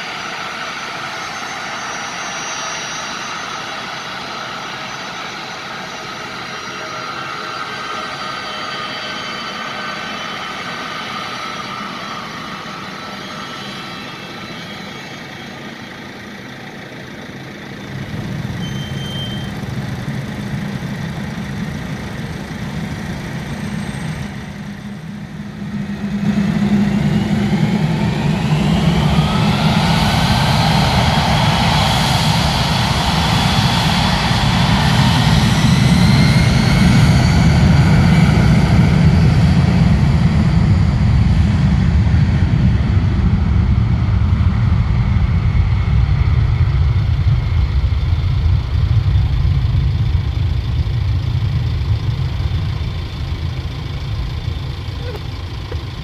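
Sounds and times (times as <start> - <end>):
jet engines roaring at takeoff: 0.0 - 56.0.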